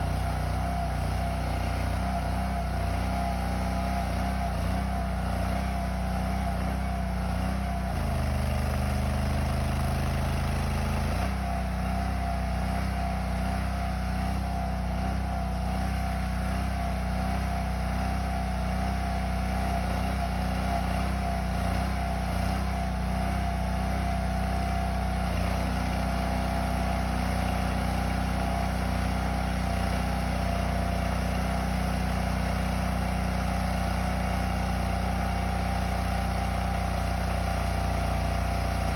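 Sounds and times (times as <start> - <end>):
trencher engine running: 0.0 - 38.9.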